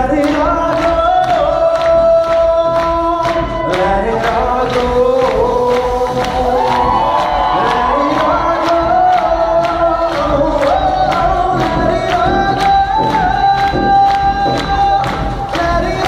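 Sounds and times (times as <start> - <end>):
person singing into microphone: 0.0 - 16.0
sharp beat hits: 0.0 - 16.0.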